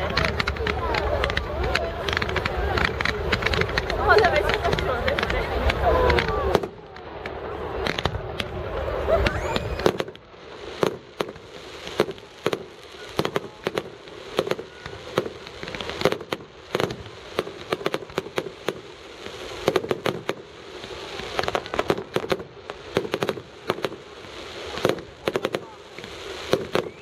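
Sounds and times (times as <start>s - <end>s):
background rumble: 0.0s - 27.0s
fireworks bangs and crackles: 0.0s - 27.0s.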